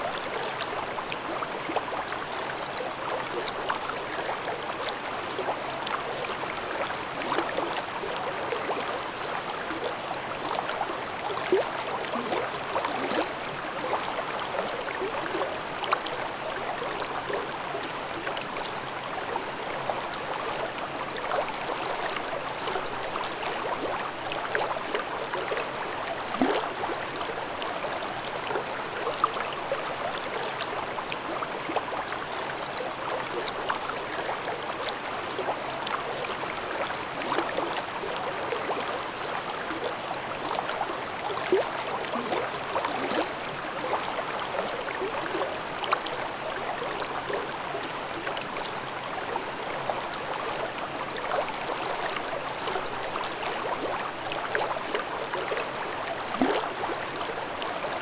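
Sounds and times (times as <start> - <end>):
brook babbling over rocks: 0.0 - 58.0.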